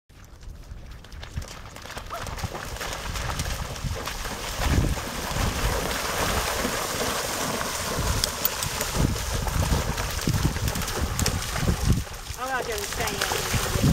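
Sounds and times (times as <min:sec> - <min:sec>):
horse and dogs splashing in water: 0:00.1 - 0:13.9
wind rumble on microphone: 0:00.1 - 0:13.9.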